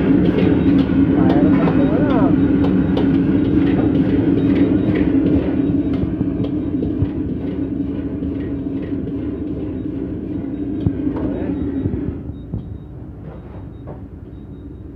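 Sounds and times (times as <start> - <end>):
gas wok burner roaring: 0.0 - 13.2.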